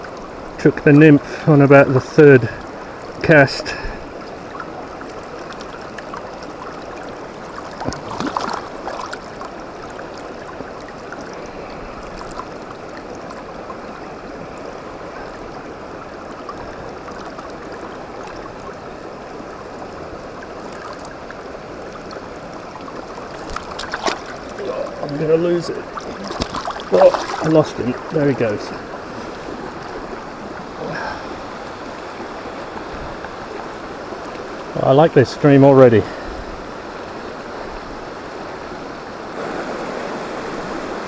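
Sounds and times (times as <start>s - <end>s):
stream running over stones: 0.0s - 41.0s
water splashes: 0.0s - 41.0s.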